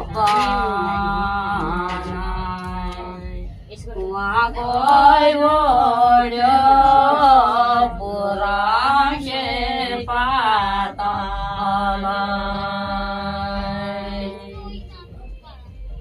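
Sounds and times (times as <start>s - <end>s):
women singing folk song: 0.0s - 15.6s.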